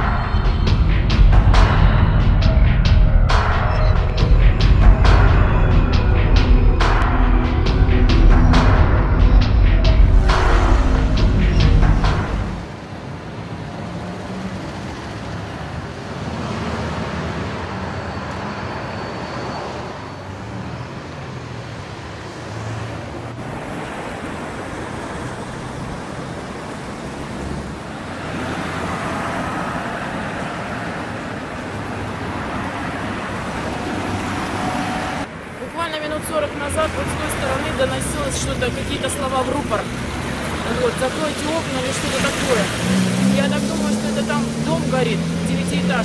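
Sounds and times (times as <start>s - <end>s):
street traffic passing: 0.0s - 46.0s.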